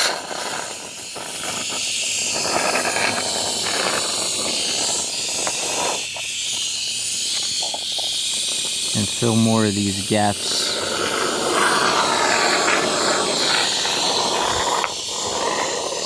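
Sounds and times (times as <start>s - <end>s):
spray foam can hissing: 0.0s - 16.0s.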